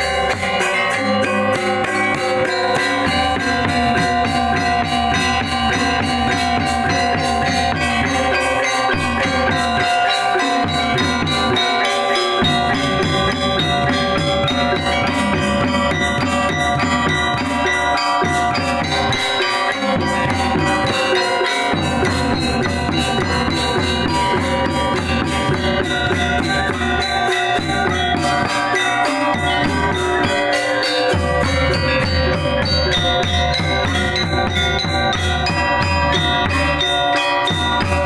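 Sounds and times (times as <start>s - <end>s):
drums: 0.0s - 38.0s
metallophones ringing: 0.0s - 38.0s.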